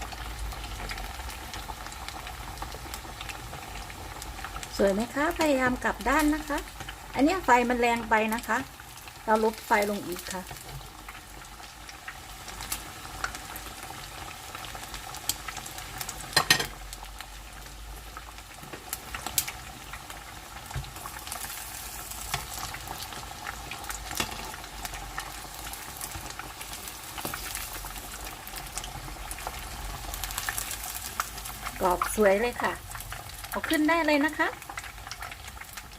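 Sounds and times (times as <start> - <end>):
oil popping and crackling: 0.0 - 35.9
oil sizzling: 0.0 - 35.9.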